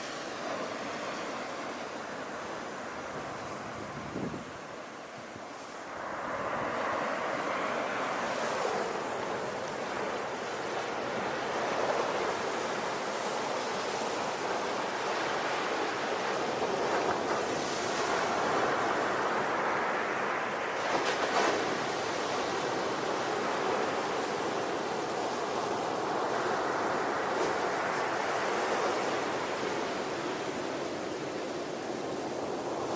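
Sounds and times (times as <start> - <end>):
sea waves breaking on shore: 0.0 - 32.9
wind: 0.0 - 32.9.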